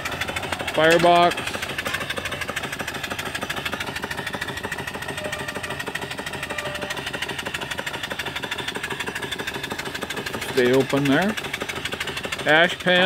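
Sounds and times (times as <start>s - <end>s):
steam engine exhaust chuffs: 0.0s - 13.0s.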